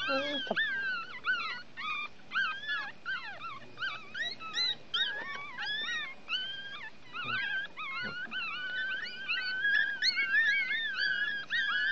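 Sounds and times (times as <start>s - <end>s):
puppies squealing and crying: 0.0s - 11.9s.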